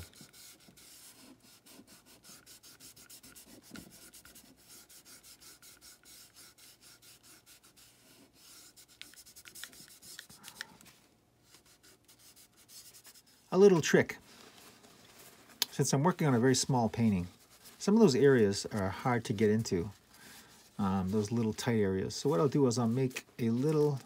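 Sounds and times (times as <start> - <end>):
paper towel wiping strokes: 0.0 - 24.0.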